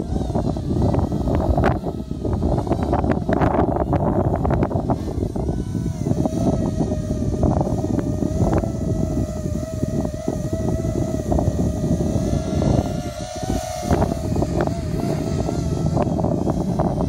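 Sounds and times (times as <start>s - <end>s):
drone motors whining: 0.0s - 17.0s
wind rumble on microphone: 0.0s - 17.0s.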